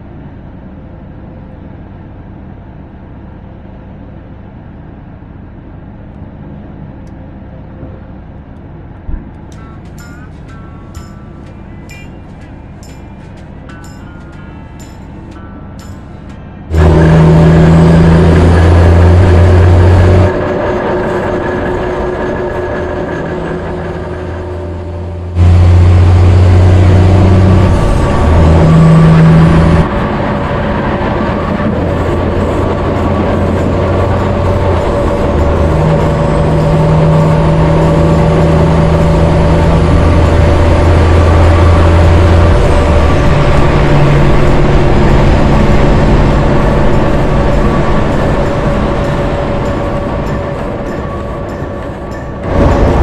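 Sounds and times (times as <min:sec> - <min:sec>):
truck diesel engine droning: 0:00.0 - 0:53.0.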